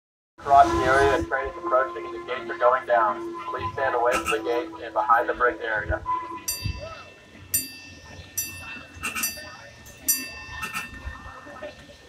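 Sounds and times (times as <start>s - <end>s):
railroad crossing bell ringing: 1.3s - 12.0s.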